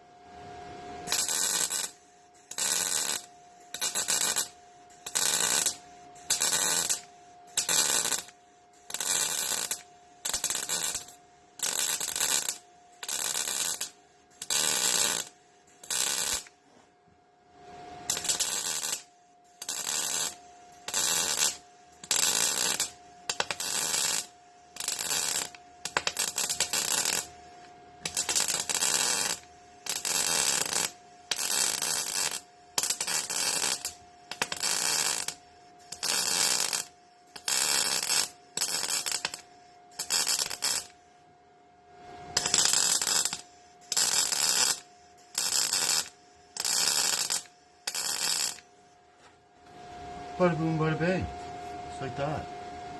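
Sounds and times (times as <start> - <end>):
steady hum: 0.0 - 52.9
welding arc crackle: 1.0 - 16.5, 18.0 - 27.4, 28.0 - 41.0, 42.4 - 48.6.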